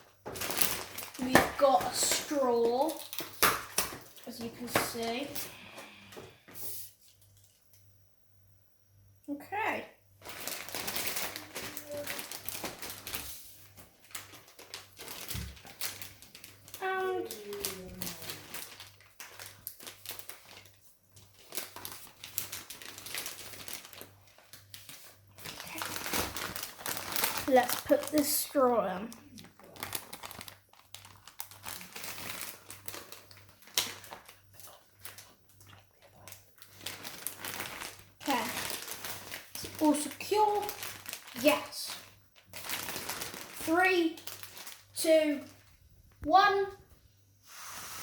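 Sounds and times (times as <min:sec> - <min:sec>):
plastic packaging crinkling: 0:00.0 - 0:06.0, 0:10.2 - 0:46.2.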